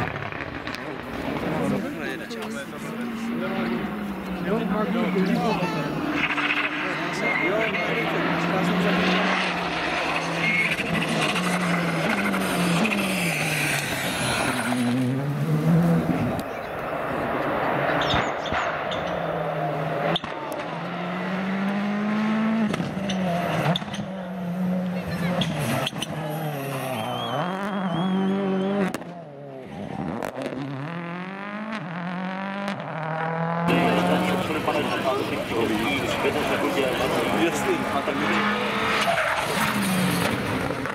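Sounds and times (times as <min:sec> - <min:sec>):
rally car engine running hard: 0:00.0 - 0:40.9
tyre and road noise: 0:00.0 - 0:40.9.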